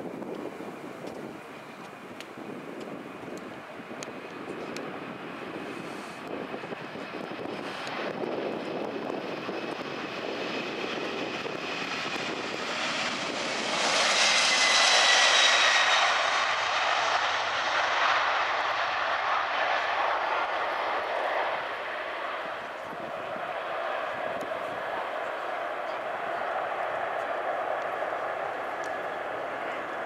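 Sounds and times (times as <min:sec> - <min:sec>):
jet engines at take-off power: 0:00.1 - 0:30.0.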